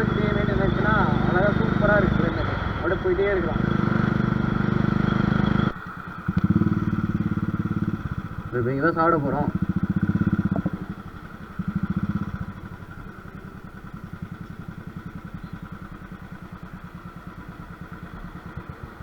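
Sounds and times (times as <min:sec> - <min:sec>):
motorcycle engine thumping: 0:00.0 - 0:19.0.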